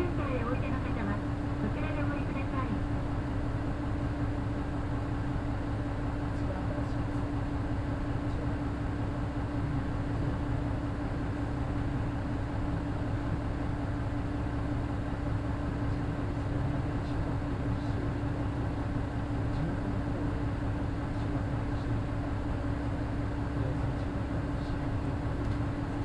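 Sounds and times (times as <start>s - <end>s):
bus diesel engine humming: 0.0s - 26.0s.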